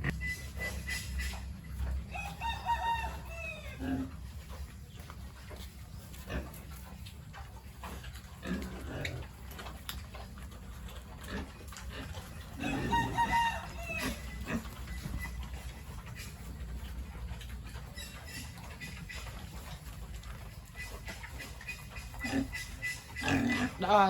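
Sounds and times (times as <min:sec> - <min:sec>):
chickens calling: 0:00.0 - 0:24.0
low steady hum: 0:00.0 - 0:24.0.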